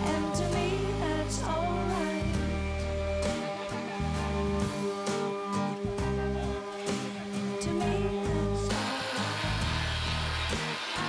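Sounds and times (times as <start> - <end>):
song with instrumental backing: 0.0 - 11.0.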